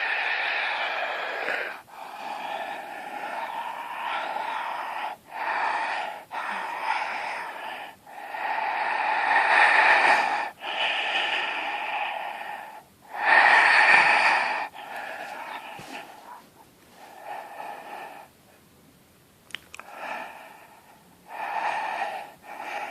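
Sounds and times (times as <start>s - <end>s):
person breathing deeply: 0.0s - 18.4s, 19.8s - 22.9s.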